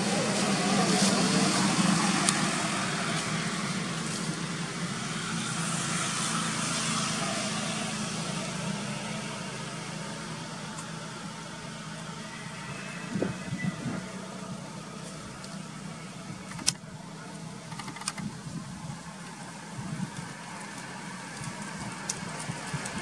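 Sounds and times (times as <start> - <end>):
distant vehicle engine hum: 0.0 - 23.0.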